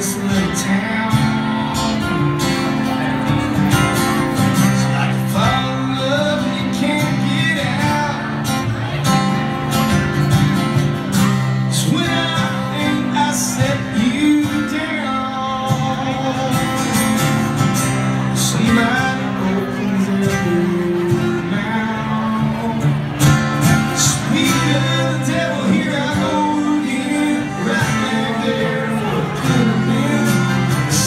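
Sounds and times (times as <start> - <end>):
live country band playing: 0.0 - 31.0.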